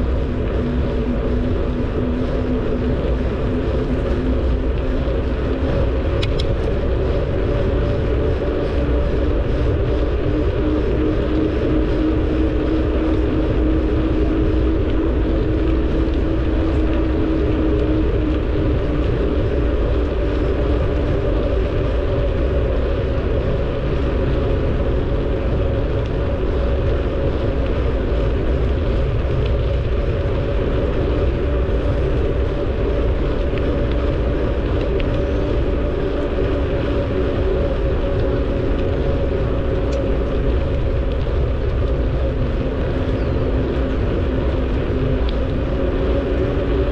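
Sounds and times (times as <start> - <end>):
faint steady hum: 0.0 - 46.9
wind rushing over microphone: 0.0 - 46.9.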